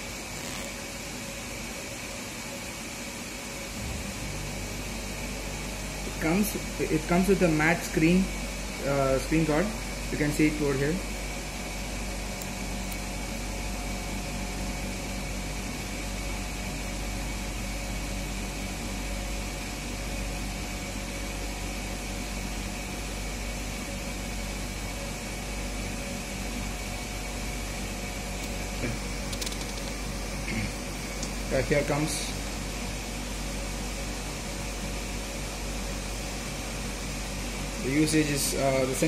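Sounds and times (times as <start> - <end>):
machinery hum: 0.0 - 39.0.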